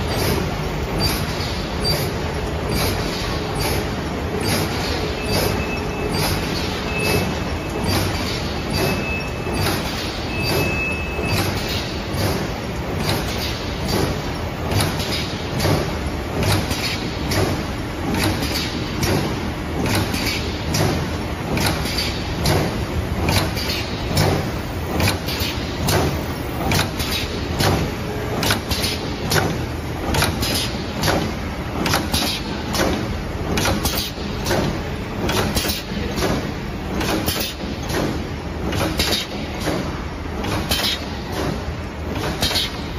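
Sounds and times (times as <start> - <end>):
machine mechanical clatter: 0.0 - 42.9
regular machine clack: 0.0 - 42.9.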